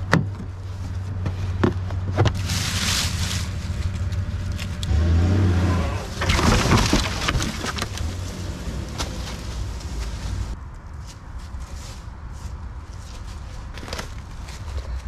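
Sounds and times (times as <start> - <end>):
log dragging through dry leaves: 0.7 - 15.0.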